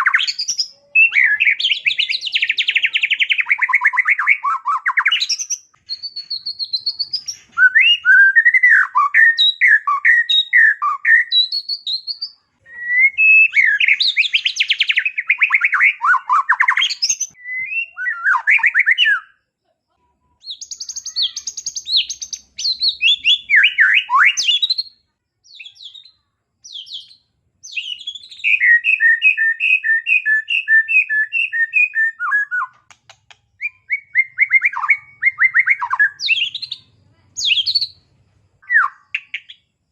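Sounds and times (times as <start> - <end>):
bird singing varied song: 0.0 - 19.4, 20.3 - 39.9.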